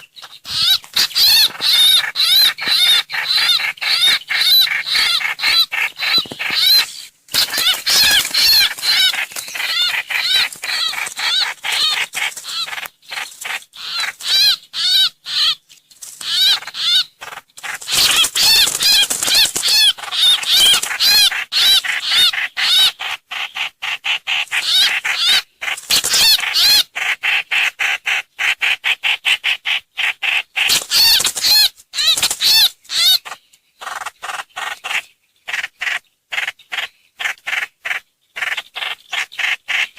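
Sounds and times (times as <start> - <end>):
bird high chirping calls: 0.0 - 26.9, 30.6 - 39.9.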